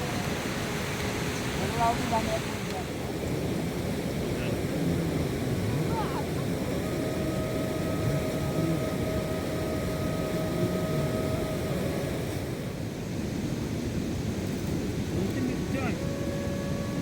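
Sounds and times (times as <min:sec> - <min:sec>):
thin steady tone: 0:00.0 - 0:12.9, 0:14.4 - 0:17.0
river rushing: 0:00.0 - 0:17.0.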